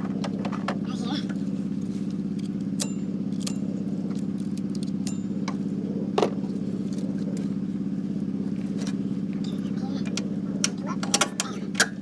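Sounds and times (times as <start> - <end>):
low mechanical motor drone: 0.0 - 12.0.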